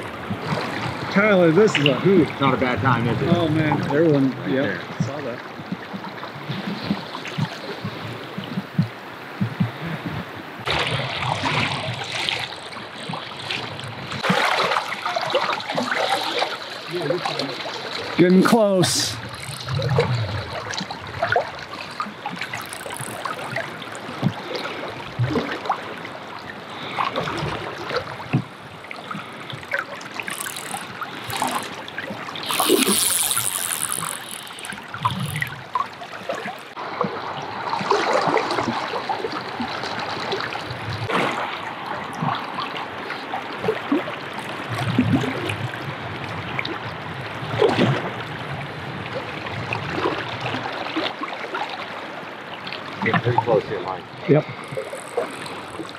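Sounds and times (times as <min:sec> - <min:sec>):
water splashes: 0:00.0 - 0:55.9.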